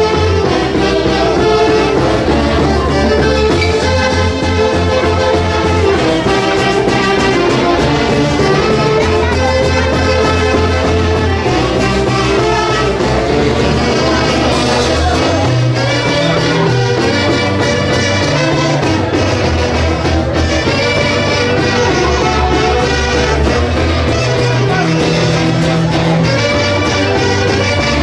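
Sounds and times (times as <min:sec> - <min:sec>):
horns playing melody: 0:00.0 - 0:28.0
pulsing bass line: 0:00.0 - 0:28.0.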